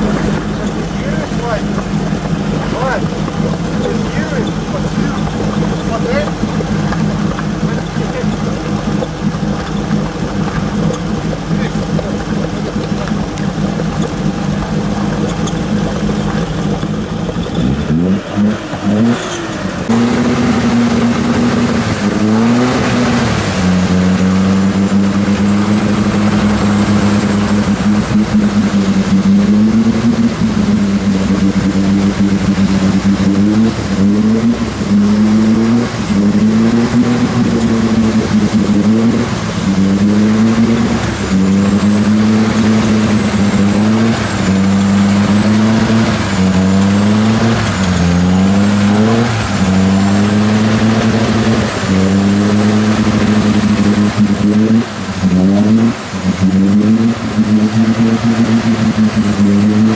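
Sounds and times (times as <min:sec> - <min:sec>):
off-road engine revving: 0:00.0 - 0:59.9
wheels churning through mud: 0:00.0 - 0:59.9.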